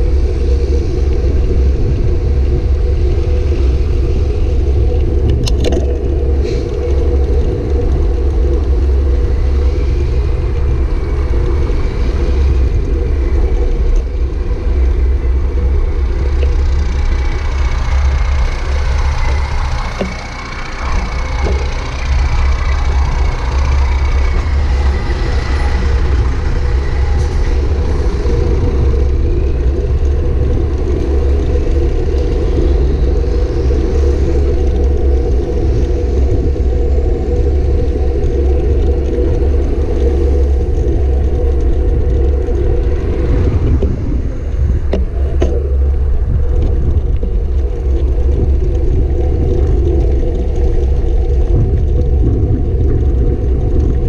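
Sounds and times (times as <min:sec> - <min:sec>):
faint high whine: 0:00.0 - 0:52.6
wind and road noise: 0:00.0 - 0:54.0.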